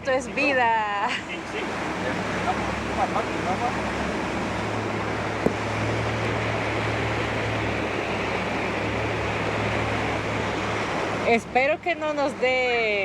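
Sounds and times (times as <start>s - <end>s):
motorboat engine humming: 0.0s - 13.0s
wind and water rushing: 0.0s - 13.0s.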